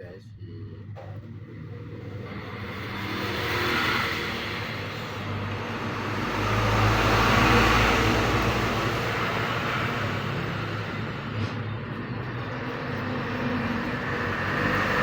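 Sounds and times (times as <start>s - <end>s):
vehicle passing by: 1.2s - 15.0s.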